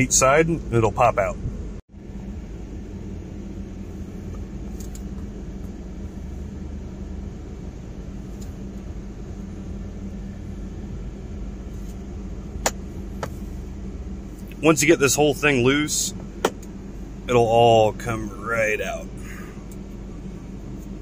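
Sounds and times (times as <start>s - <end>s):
car cabin rumble and hum: 0.0s - 21.0s.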